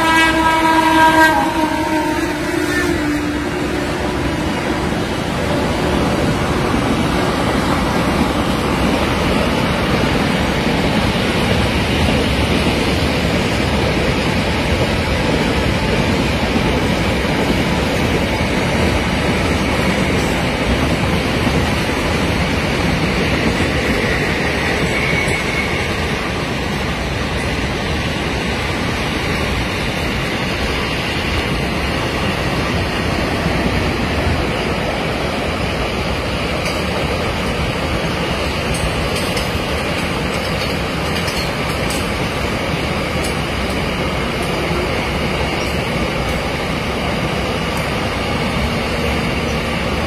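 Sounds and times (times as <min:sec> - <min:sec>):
freight train rolling past: 0:00.0 - 0:50.0.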